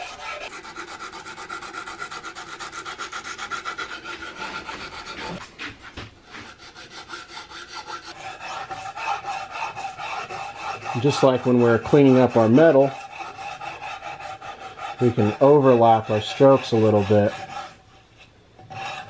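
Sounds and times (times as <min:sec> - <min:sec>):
sandpaper rubbing on wood: 0:00.0 - 0:19.0.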